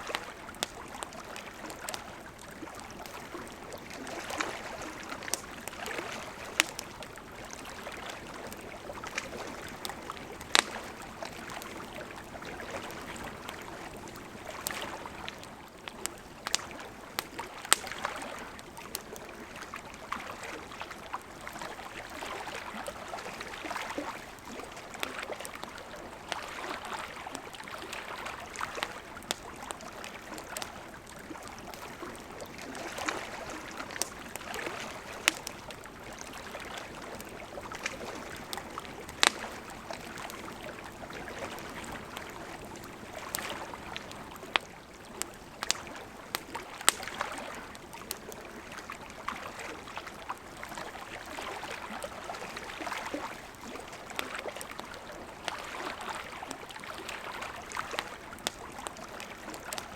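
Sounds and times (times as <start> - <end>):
campfire crackling and popping: 0.0 - 59.9
waves lapping at shore: 0.0 - 59.9.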